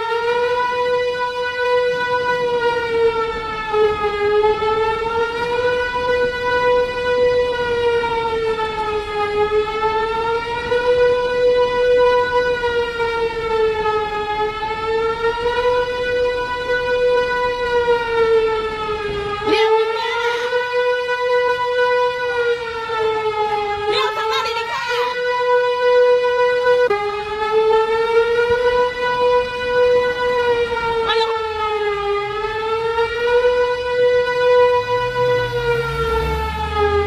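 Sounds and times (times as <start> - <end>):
warning siren wailing: 0.0 - 37.0.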